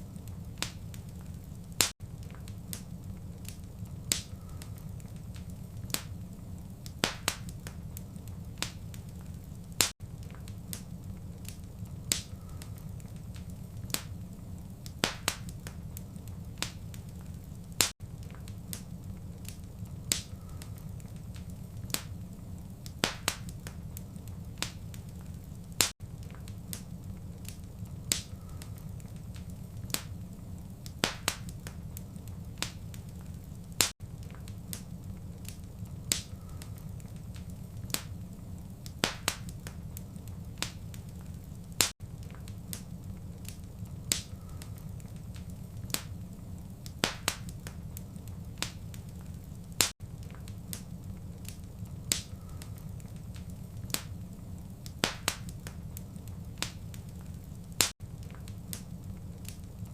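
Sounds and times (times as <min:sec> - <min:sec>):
fire rumbling: 0:00.0 - 0:59.9
wood fire crackling and popping: 0:00.0 - 0:59.9.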